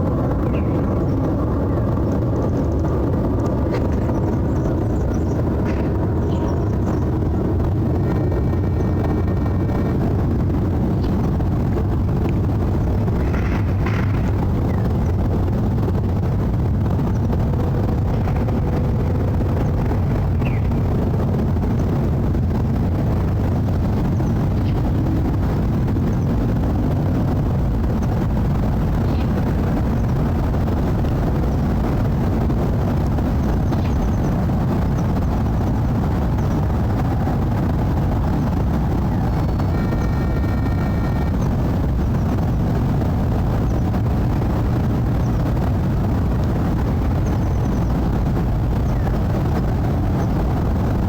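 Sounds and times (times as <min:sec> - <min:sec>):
jet airliner engine rumble: 0:00.0 - 0:51.0.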